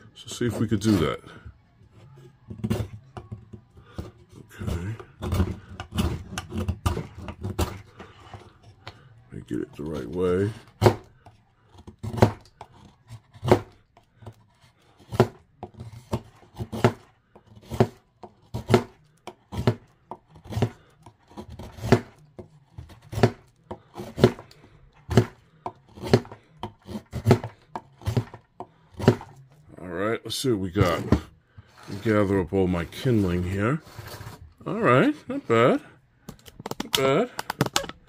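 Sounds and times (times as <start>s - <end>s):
knife carving wood: 0.3s - 29.7s, 30.7s - 38.0s.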